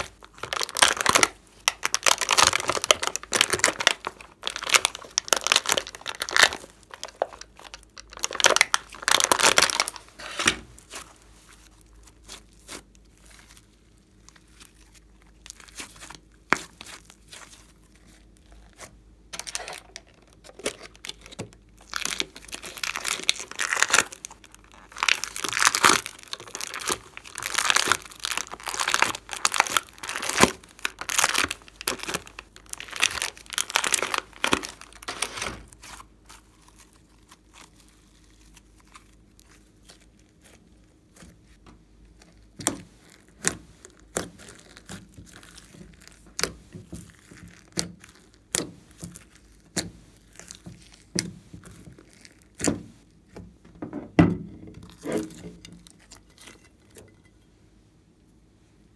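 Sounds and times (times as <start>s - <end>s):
slime crackling and crinkling: 0.0s - 53.6s, 54.7s - 57.1s.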